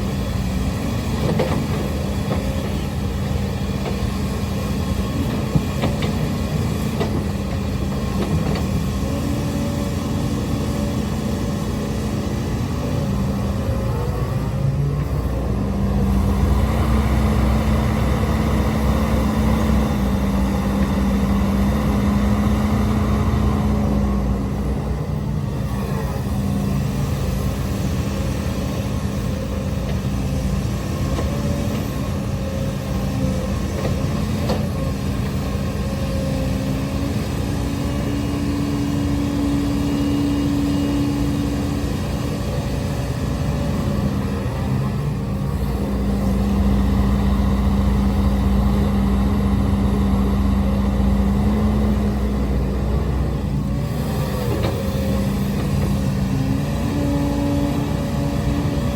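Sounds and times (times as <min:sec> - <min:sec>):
excavator diesel engine under load: 0:00.0 - 0:58.9.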